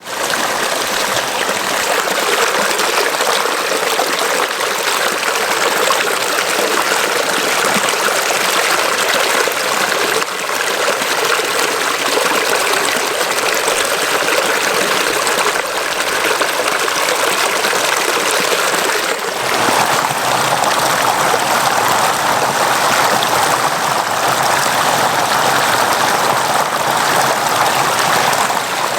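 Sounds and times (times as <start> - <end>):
river water rushing: 0.1 - 28.9.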